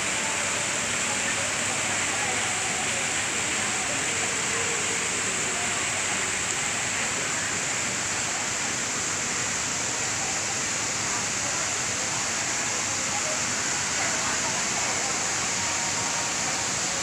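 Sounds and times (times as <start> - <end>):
waterfall pouring into a pond: 0.0 - 17.0.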